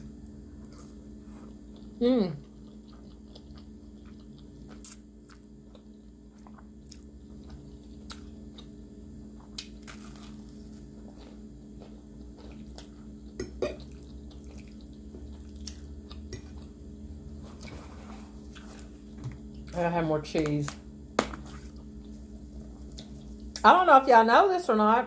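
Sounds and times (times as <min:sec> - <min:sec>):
steady low hum: 0:00.0 - 0:25.0
person chewing spaghetti: 0:00.1 - 0:19.8, 0:21.4 - 0:23.6.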